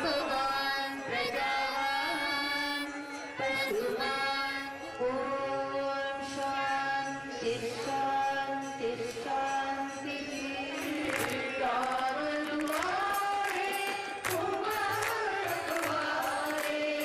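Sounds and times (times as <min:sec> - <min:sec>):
harmonium notes: 0:00.0 - 0:17.0
voices singing a hymn: 0:00.0 - 0:17.0.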